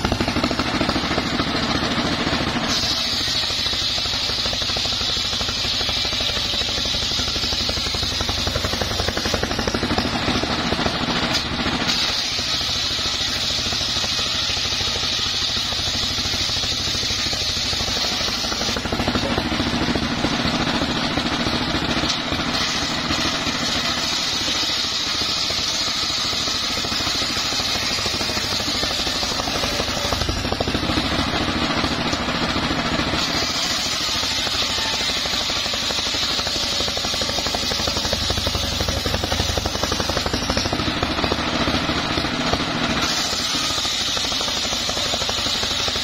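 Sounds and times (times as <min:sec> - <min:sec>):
circular saw ripping wood: 0:00.0 - 0:46.0.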